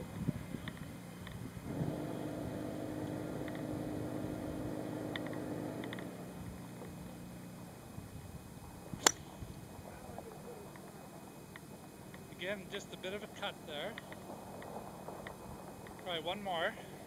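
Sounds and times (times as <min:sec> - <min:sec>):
mechanical engine-like hum: 0:00.0 - 0:17.0.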